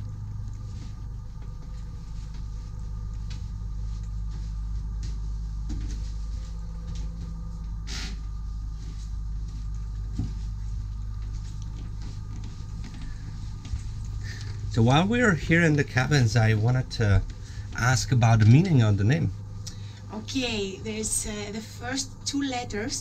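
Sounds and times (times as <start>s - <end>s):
low hum of boat machinery: 0.0s - 23.0s.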